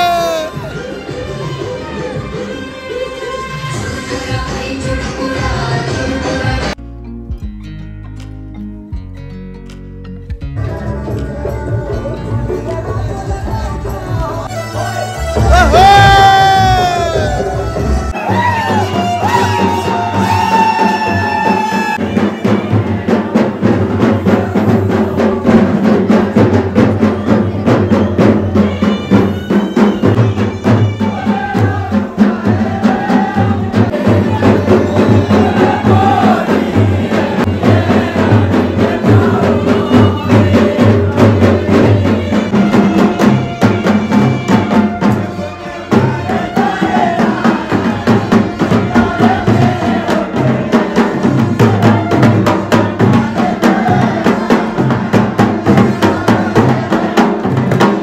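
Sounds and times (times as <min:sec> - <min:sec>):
busy percussion beat: 0:10.3 - 0:58.0.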